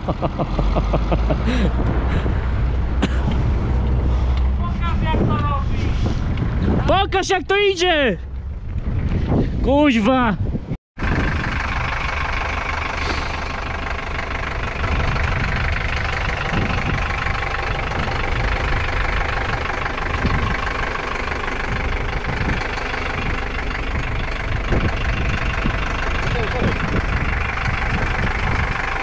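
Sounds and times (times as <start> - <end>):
vehicle engine running: 0.0 - 7.0, 11.0 - 29.0.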